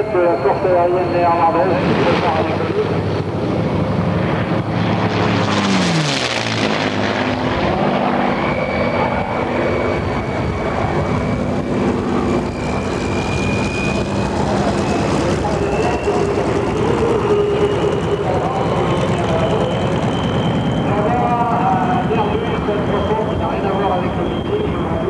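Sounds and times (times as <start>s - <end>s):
propeller plane engine passing: 0.0s - 25.0s.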